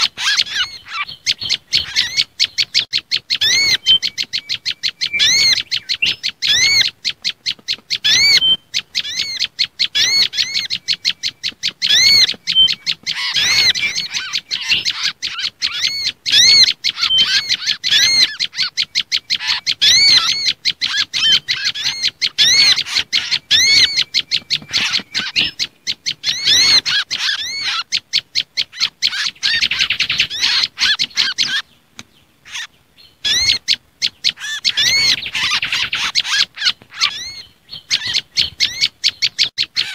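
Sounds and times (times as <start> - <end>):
songbirds chirping in alarm: 0.0 - 39.9.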